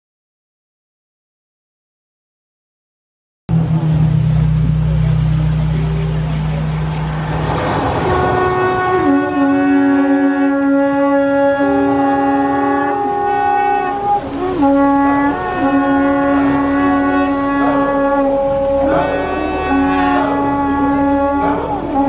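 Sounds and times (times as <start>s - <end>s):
horn-like wind instruments: 3.5s - 22.0s.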